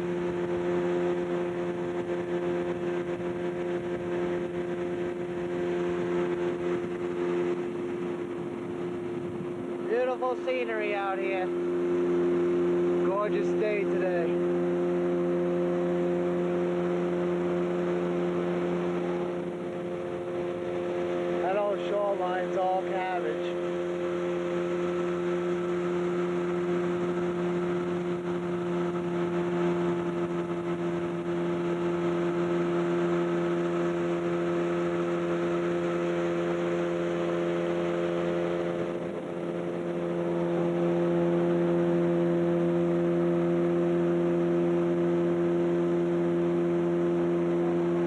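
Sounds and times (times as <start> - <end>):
boat motor running: 0.0 - 48.0.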